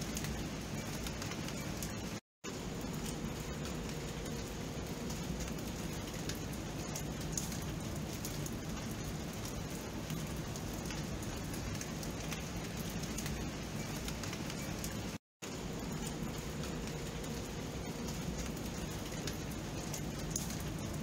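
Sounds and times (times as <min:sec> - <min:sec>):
raindrops ticking on surfaces: 0:00.0 - 0:21.0
steady rain hiss: 0:00.0 - 0:21.0.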